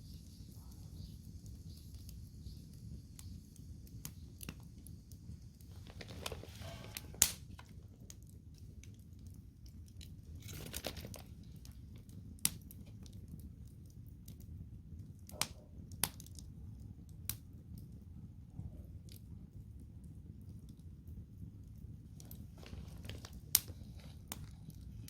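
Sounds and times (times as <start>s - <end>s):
campfire rumble and crackling: 0.0s - 25.0s
fire pops and snaps: 0.0s - 25.0s.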